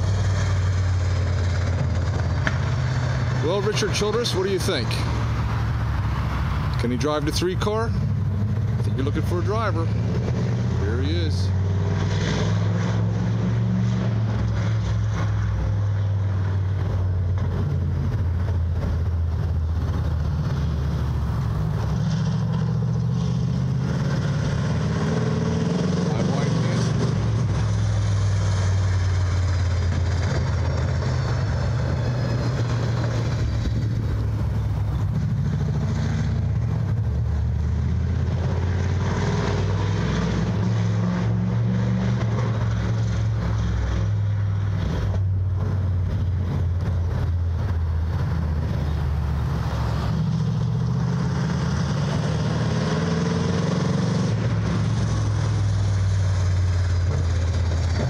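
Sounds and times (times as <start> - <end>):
race car engine passing: 0.0 - 58.0.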